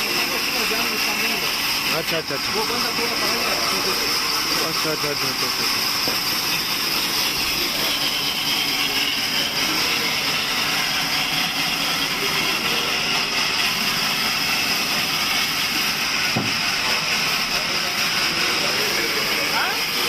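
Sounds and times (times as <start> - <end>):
sawmill machine running: 0.0 - 20.0.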